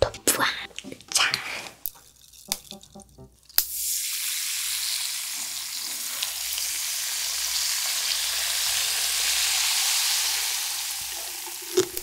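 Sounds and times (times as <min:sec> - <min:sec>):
soda fizzing and popping: 0:01.8 - 0:12.0
soda pouring: 0:02.1 - 0:12.0.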